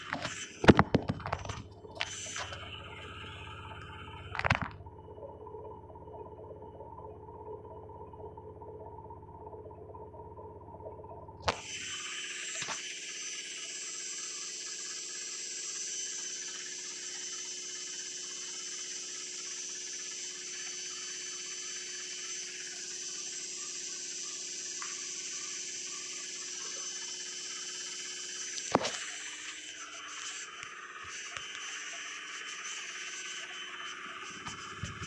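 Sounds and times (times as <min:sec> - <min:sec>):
washing machine spinning: 0:00.0 - 0:35.0.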